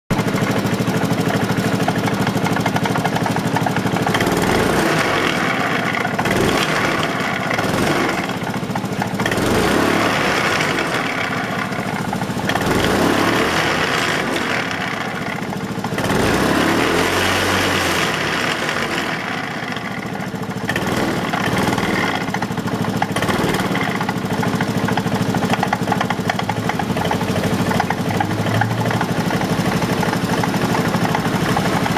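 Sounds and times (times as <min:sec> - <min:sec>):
scooter engine revving: 0:00.1 - 0:31.9.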